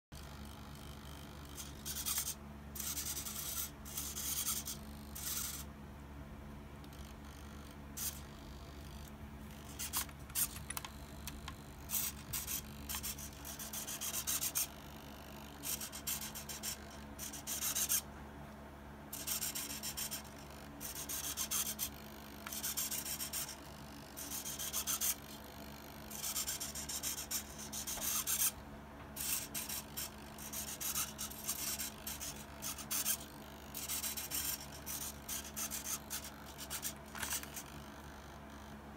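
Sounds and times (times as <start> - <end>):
servo gears whirring: 0.2 - 5.7, 6.8 - 18.0, 19.1 - 28.6, 29.2 - 38.7.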